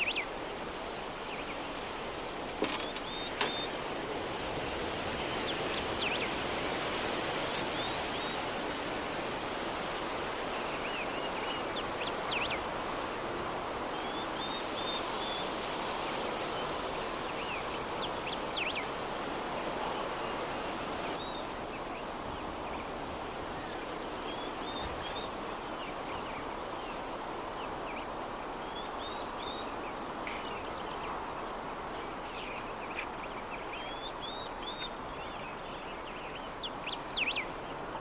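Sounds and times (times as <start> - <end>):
small birds chirping: 0.0 - 4.2, 10.4 - 12.9, 13.8 - 38.0
soft breeze: 0.0 - 38.0.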